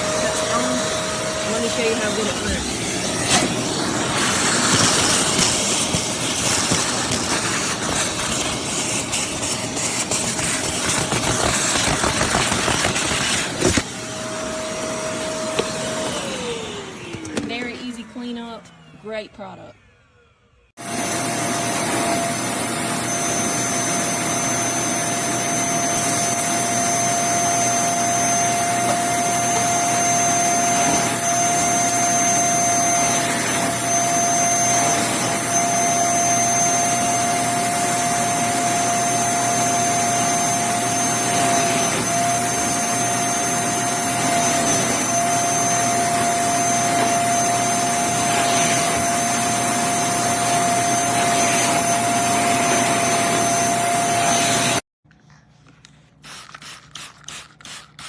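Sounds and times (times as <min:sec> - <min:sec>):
vacuum cleaner running: 0:00.0 - 0:19.9, 0:20.7 - 0:54.9.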